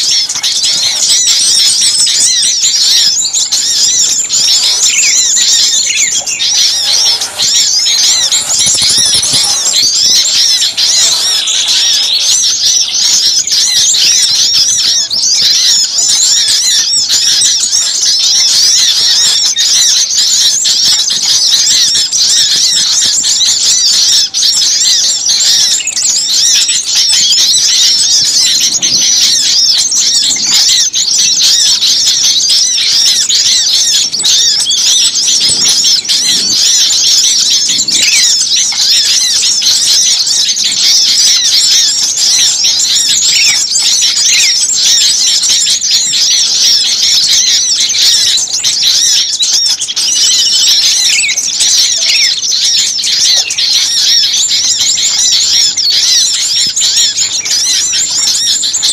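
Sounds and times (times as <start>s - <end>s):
flock of songbirds chirping: 0.0s - 58.9s.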